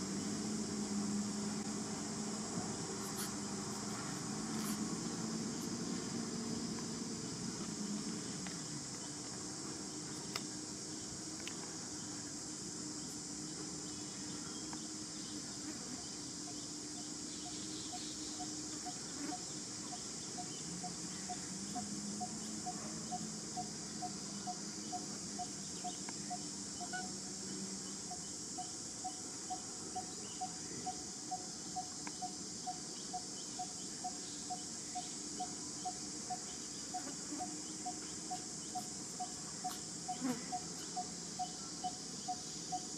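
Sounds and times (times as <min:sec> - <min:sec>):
high-pitched insect hiss: 0:00.0 - 0:42.9.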